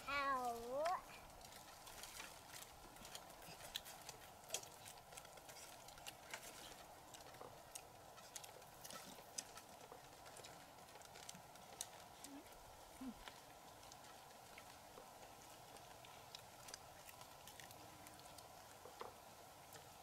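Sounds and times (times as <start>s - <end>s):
people chewing and eating: 0.0s - 20.0s.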